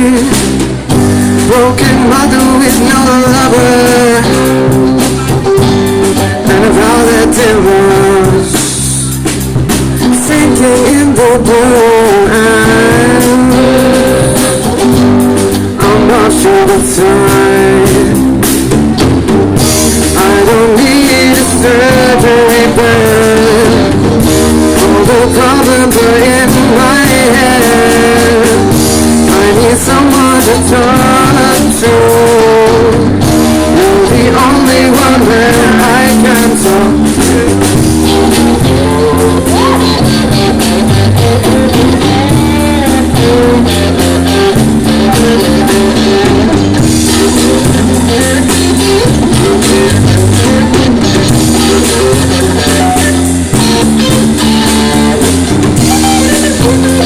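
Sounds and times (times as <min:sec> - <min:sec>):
melodic lead guitar line: 0:00.0 - 0:57.0
rock band playing: 0:00.0 - 0:57.0.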